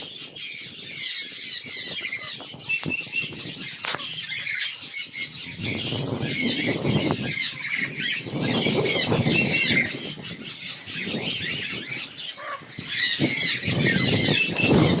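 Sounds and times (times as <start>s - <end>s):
caged birds squawking: 0.0s - 15.0s.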